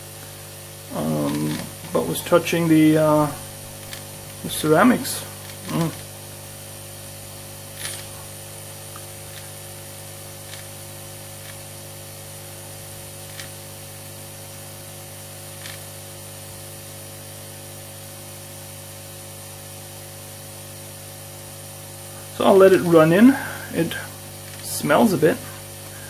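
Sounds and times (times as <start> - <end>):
hot air blower hissing: 0.0 - 26.0.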